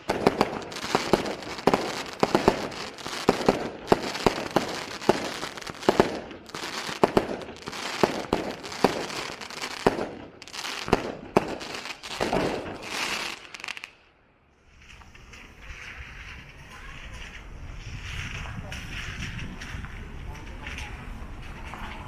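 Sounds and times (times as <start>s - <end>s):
fireworks sharp bangs: 0.0s - 13.9s, 14.7s - 22.0s
fireworks crackling: 0.0s - 22.0s.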